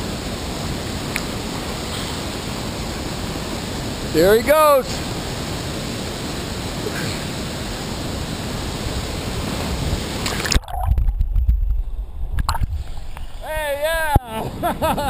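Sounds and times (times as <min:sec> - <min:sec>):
creek waterfall rushing: 0:00.0 - 0:10.6, 0:12.7 - 0:14.8.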